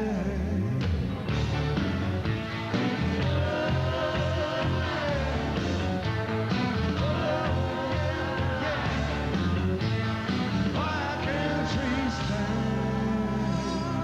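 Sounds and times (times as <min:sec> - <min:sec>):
live rock band playing: 0:00.8 - 0:14.0.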